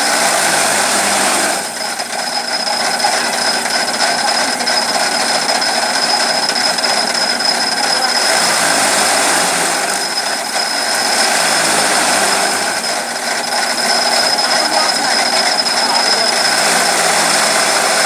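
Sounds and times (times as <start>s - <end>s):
chaff cutter running: 0.0s - 18.0s
high machine whine: 0.0s - 18.0s.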